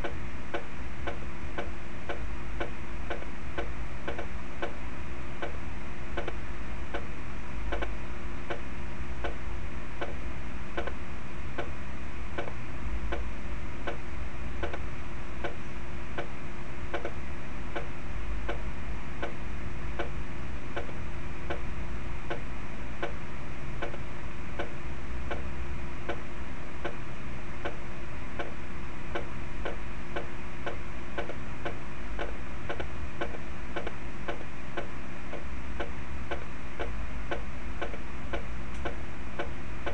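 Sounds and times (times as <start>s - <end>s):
constant hum: 0.0s - 39.9s.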